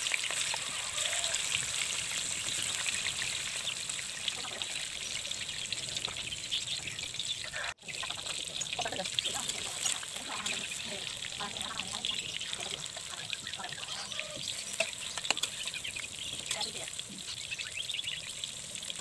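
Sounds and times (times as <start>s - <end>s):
tofu sizzling in hot oil: 0.0s - 19.0s.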